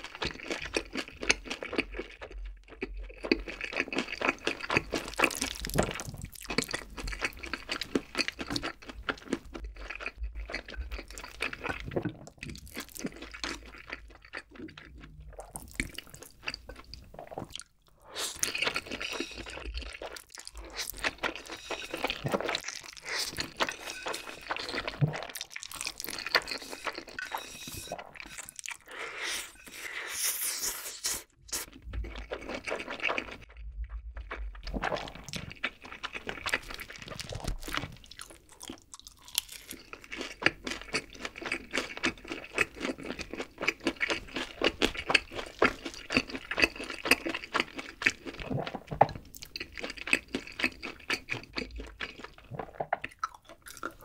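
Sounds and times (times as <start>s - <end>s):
noodles slurped and chewed: 0.0s - 54.0s.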